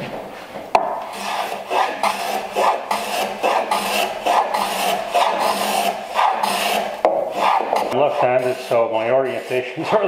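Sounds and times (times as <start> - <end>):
block plane rasping on wood: 0.8 - 10.0.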